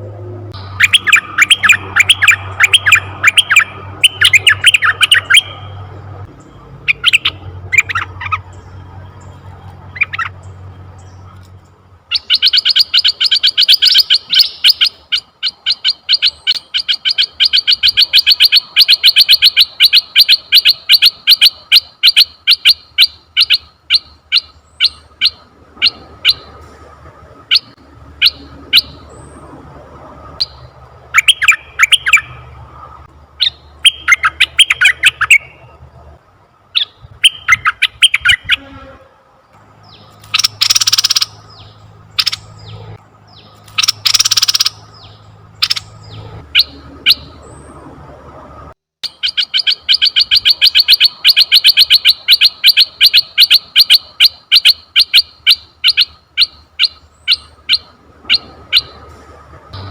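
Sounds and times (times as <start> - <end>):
bulbul calling: 0.5 - 11.5, 12.1 - 26.6, 27.4 - 29.5, 30.4 - 32.6, 33.4 - 35.8, 36.7 - 38.7, 39.8 - 47.7, 49.0 - 59.1.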